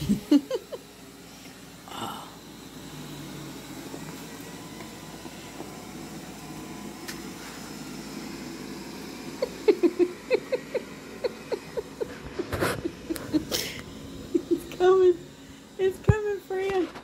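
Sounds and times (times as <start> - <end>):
robot vacuum whirring: 0.0 - 17.0.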